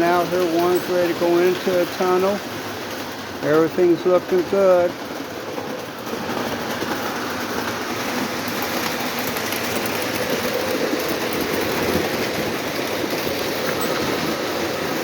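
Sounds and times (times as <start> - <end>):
model train motors running: 0.0 - 15.0
model train wheels clattering on track: 0.0 - 15.0.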